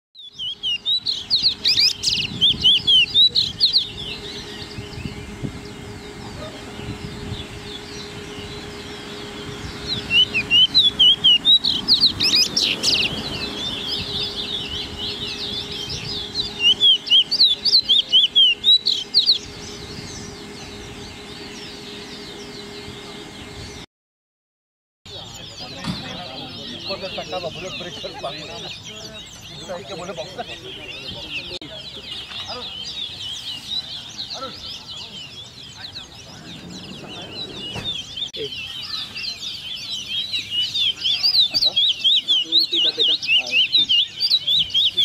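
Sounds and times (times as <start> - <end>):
finch twittering song: 0.2 - 23.8, 25.1 - 45.0.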